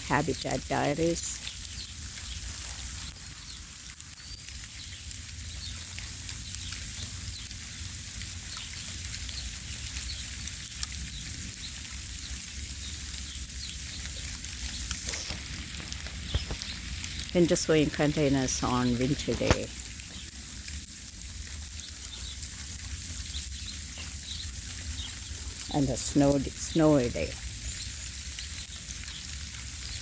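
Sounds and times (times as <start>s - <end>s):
light pattering ticks: 0.0s - 30.0s
steady outdoor hiss: 0.0s - 30.0s.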